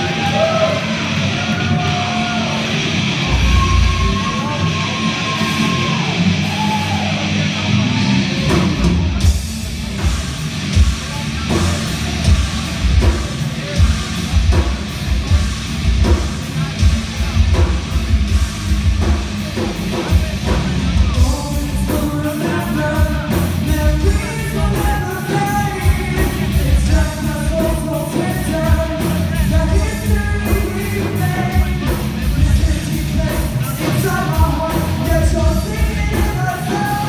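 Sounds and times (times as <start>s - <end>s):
drums hitting: 0.0s - 7.1s, 8.4s - 37.0s
rock band playing live: 0.0s - 37.0s.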